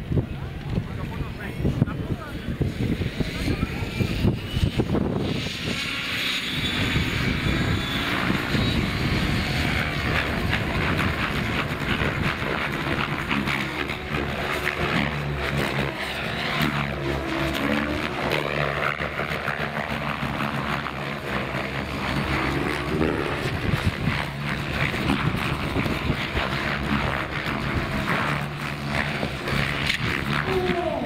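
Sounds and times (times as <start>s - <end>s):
model helicopter rotors buzzing: 0.0s - 31.0s.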